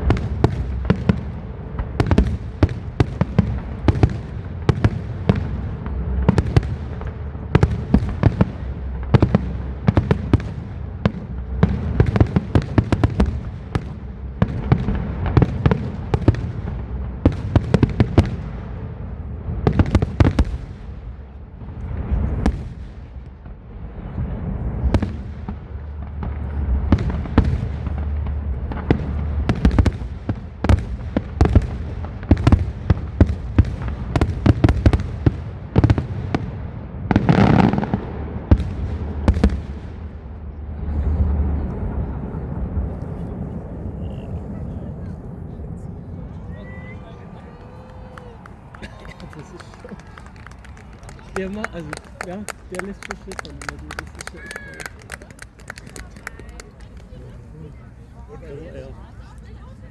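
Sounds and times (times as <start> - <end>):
low rumble: 0.0 - 48.8
fireworks bursts and cracking: 0.0 - 59.9.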